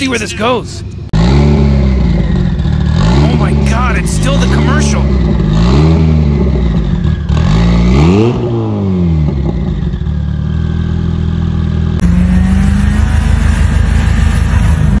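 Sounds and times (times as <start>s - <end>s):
car engine running steadily: 0.0s - 15.0s
car engine revving: 0.1s - 15.0s.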